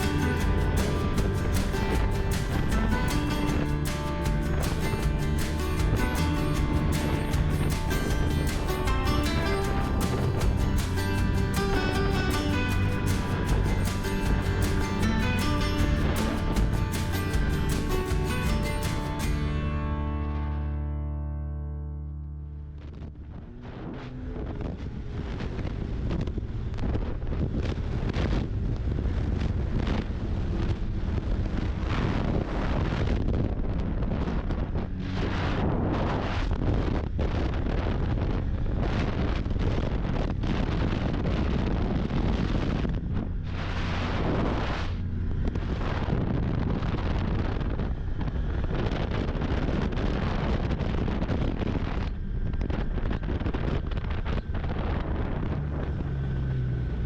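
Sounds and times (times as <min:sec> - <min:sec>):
wind buffeting microphone: 0:00.0 - 0:19.7, 0:22.7 - 0:57.0.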